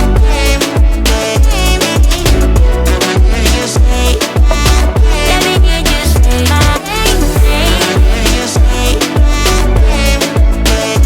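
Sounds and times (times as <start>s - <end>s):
song with deep bass beat: 0.0s - 11.0s.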